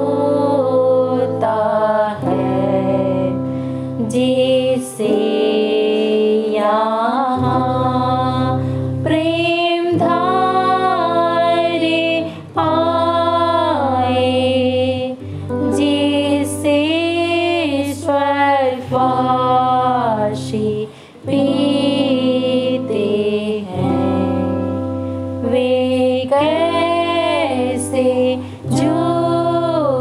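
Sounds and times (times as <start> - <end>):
instrumental accompaniment: 0.0 - 30.0
woman singing a hymn: 0.0 - 30.0.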